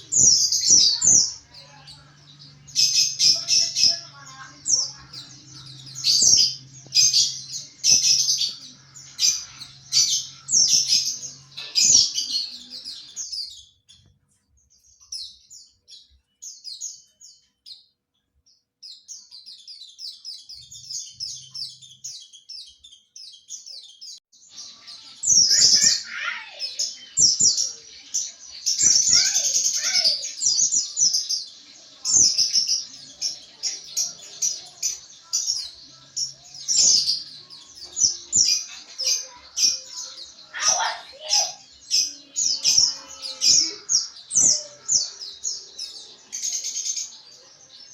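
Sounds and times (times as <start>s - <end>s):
bird twittering high chirps: 0.0s - 47.9s.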